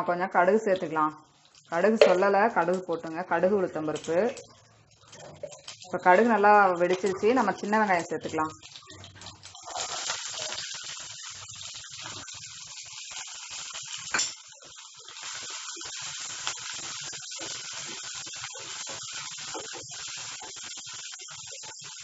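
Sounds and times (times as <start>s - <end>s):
shallots sizzling in hot oil: 0.4s - 22.0s.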